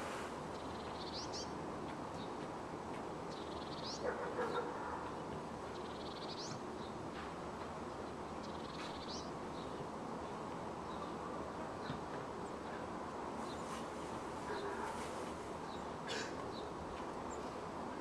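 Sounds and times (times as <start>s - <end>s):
distant city hum: 0.0s - 18.0s.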